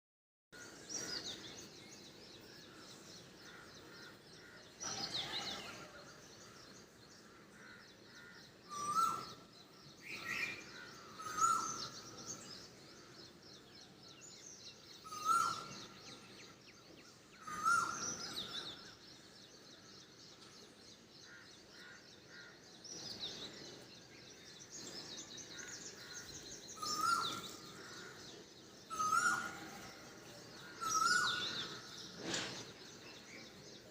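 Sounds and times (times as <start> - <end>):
birds chirping in background: 0.5 - 33.9.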